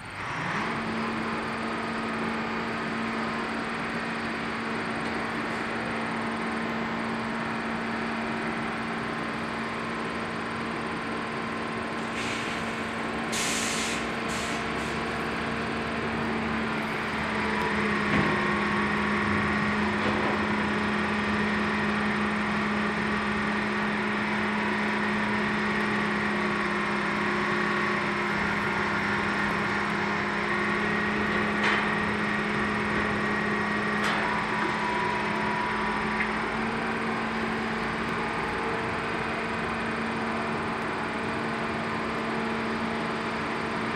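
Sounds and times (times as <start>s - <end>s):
crane engine hum with whine: 0.0s - 43.9s.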